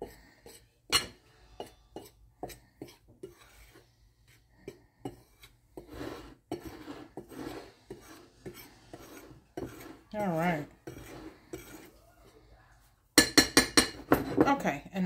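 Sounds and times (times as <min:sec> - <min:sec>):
fork scraping through flour: 0:00.0 - 0:12.6.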